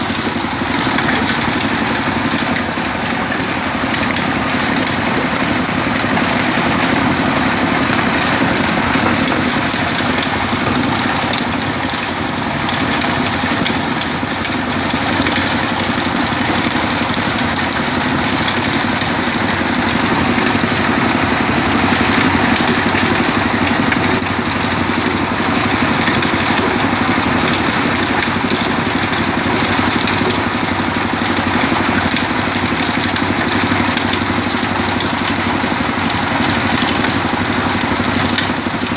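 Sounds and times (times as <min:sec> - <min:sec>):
stone crushing machine droning: 0:00.0 - 0:38.9.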